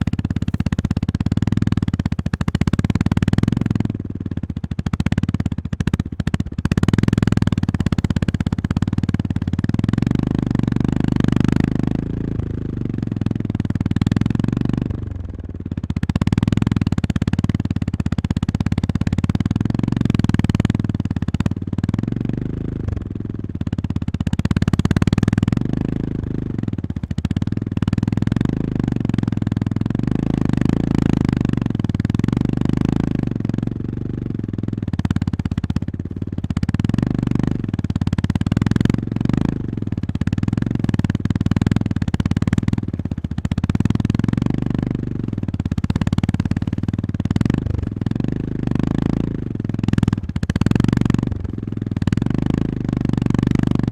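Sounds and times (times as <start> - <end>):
motorcycle engine pulling at low revs: 0.0 - 53.9.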